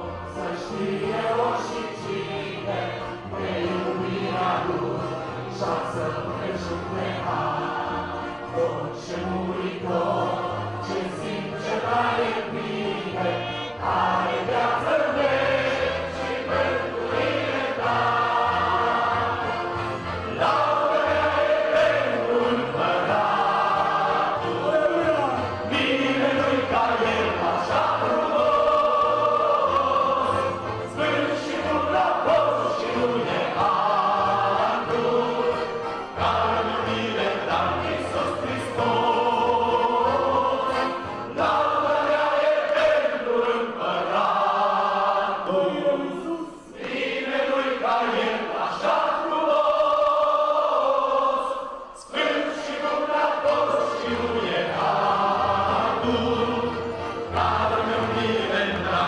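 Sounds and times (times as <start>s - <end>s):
accordions: 0.0s - 59.0s
congregation singing: 0.0s - 59.0s.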